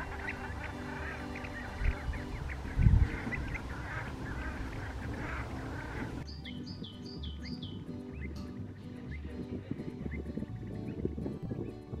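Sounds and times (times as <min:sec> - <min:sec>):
flock of waterbirds calling: 0:00.0 - 0:11.0.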